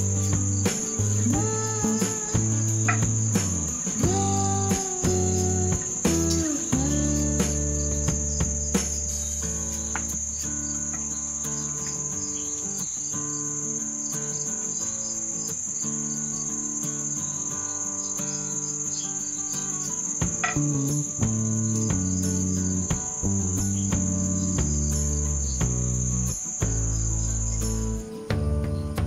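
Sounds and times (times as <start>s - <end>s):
soft background music: 0.0s - 12.6s, 17.2s - 29.0s
crickets chirping: 0.0s - 29.0s.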